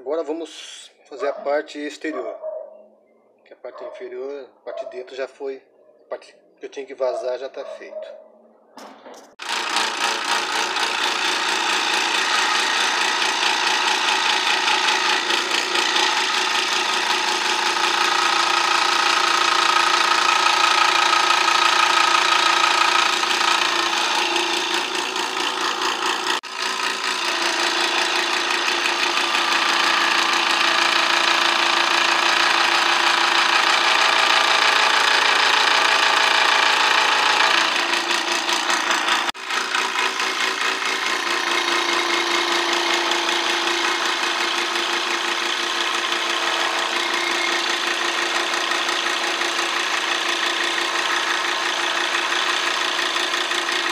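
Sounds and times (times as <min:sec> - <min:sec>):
scroll saw cutting wood: 0:09.3 - 0:53.9.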